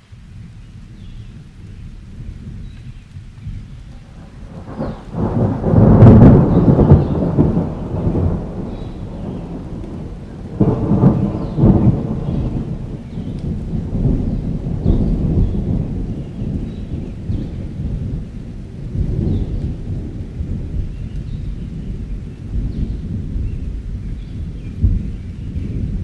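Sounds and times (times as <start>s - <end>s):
steady rain: 0.0s - 26.0s
rolling thunder: 0.2s - 26.0s.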